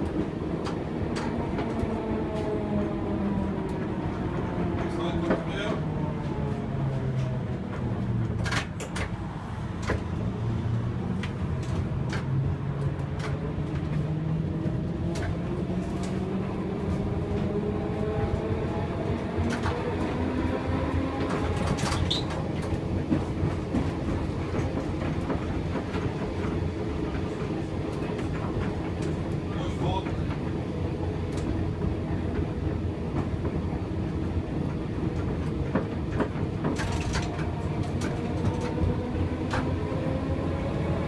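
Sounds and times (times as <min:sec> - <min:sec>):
tram rumble: 0:00.0 - 0:41.0
wheels clicking over rail joints: 0:03.6 - 0:40.2.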